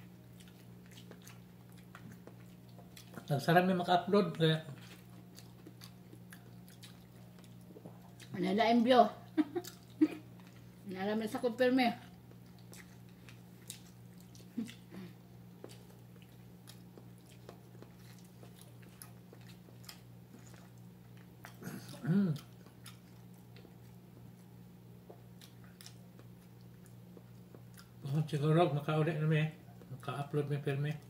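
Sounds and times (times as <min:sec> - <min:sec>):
people chewing: 0:00.0 - 0:08.4, 0:09.3 - 0:10.8, 0:12.0 - 0:28.5
low steady hum: 0:00.0 - 0:31.0.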